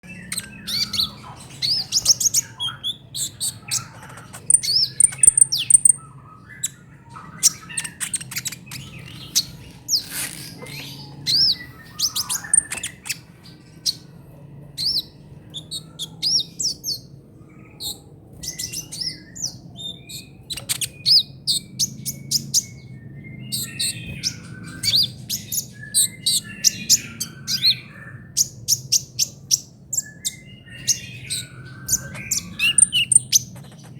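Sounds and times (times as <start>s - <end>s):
bird chirps and trills: 0.0s - 33.9s
faint low hum: 0.0s - 33.9s.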